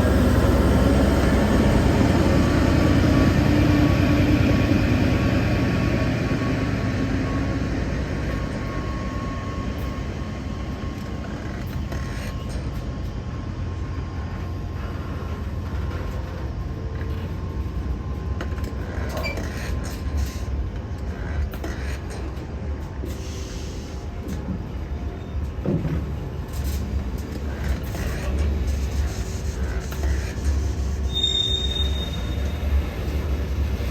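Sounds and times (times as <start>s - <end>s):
freight train rumble: 0.0s - 33.9s
train clicks and clanks: 0.0s - 33.9s.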